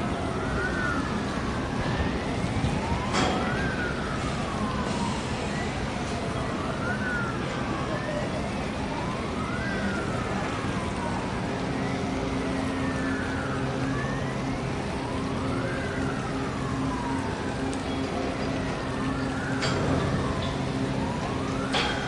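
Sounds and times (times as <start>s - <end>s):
siren wailing: 0.0s - 22.0s.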